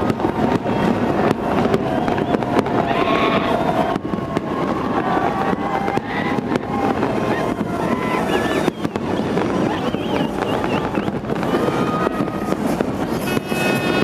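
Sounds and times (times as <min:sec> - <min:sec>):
continuous dense din: 0:00.0 - 0:14.0
fireworks bangs and crackles: 0:00.0 - 0:14.0.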